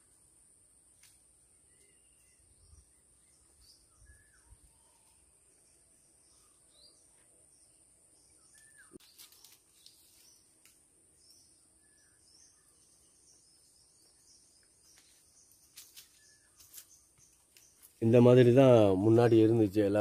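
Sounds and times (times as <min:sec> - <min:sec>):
bird chirps: 0:01.5 - 0:10.6, 0:11.2 - 0:18.4.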